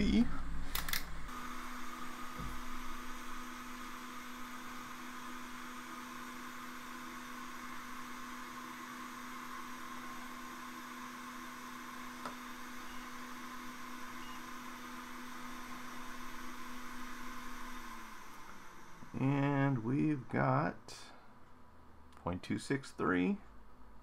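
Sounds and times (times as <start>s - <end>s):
electrical hum with hiss: 0.0s - 24.0s.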